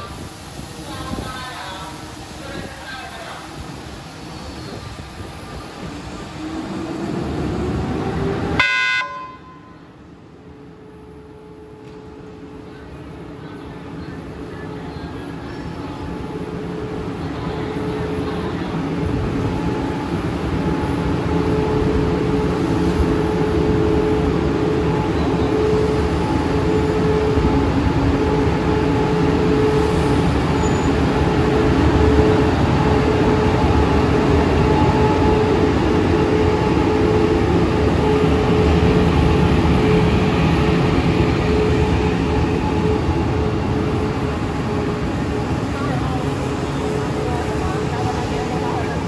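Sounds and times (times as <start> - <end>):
electric locomotive hum and rumble: 0.0 - 49.0.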